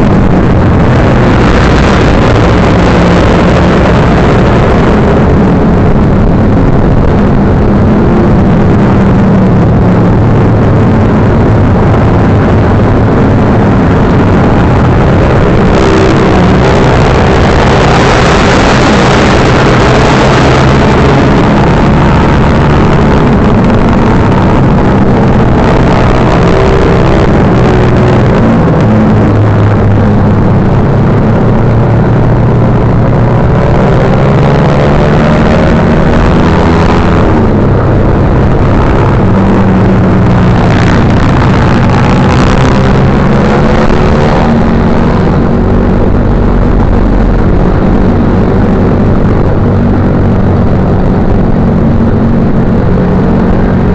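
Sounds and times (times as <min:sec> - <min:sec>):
motorcycle engine running: 0:00.0 - 0:53.9
steady rush of noise: 0:00.0 - 0:53.9.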